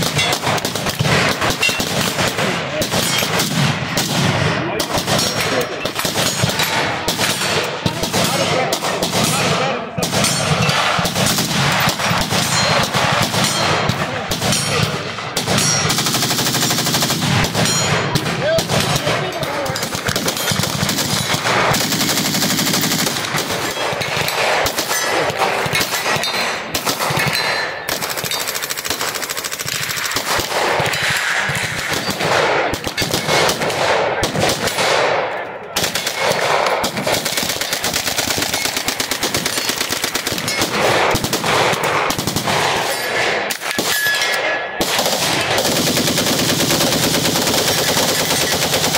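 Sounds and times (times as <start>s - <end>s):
automatic gunfire bursts: 0.0s - 44.1s, 44.8s - 48.9s.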